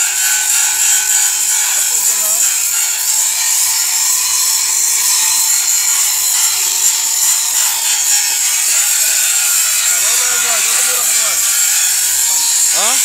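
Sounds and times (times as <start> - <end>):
power tool hissing: 0.0 - 13.0.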